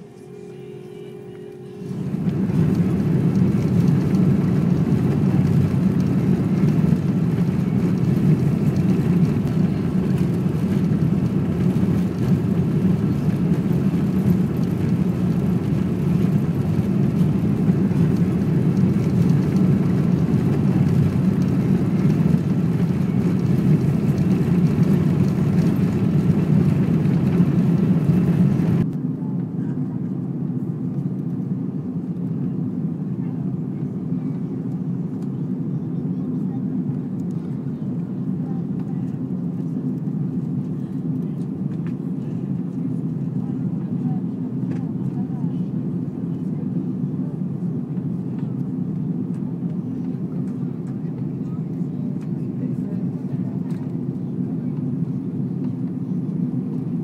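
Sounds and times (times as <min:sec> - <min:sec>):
jet engine cabin noise: 0:00.0 - 0:57.0.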